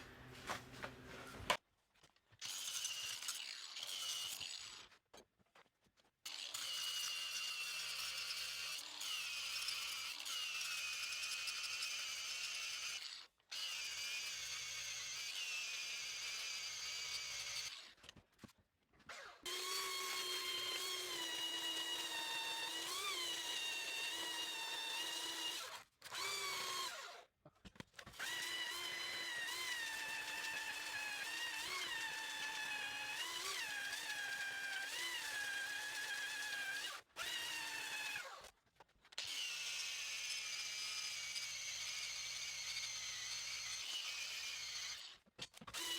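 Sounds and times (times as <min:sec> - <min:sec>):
power drill motor whining: 0:06.3 - 0:17.9, 0:19.1 - 0:27.2, 0:28.1 - 0:38.5, 0:39.2 - 0:45.9.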